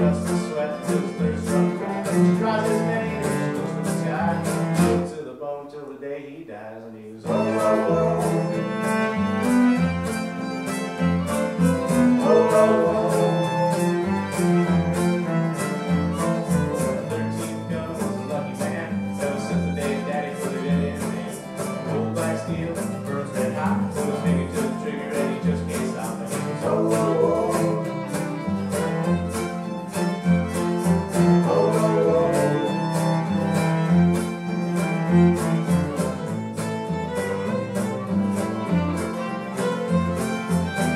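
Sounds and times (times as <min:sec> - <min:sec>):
cello: 0:00.0 - 0:05.1, 0:07.2 - 0:40.9
acoustic bass guitar: 0:00.0 - 0:05.4, 0:07.1 - 0:40.9
fiddle melody: 0:00.0 - 0:05.4, 0:06.2 - 0:40.9
strummed acoustic guitar: 0:00.0 - 0:05.4, 0:07.2 - 0:40.9.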